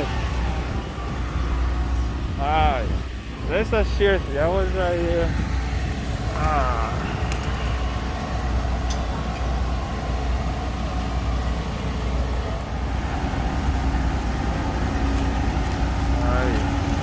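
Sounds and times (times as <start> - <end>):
motor running low rumble: 0.0 - 17.0.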